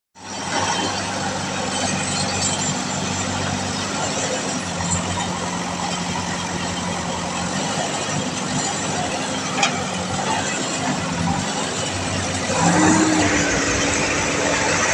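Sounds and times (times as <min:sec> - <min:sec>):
diesel engine running: 0:00.2 - 0:14.9.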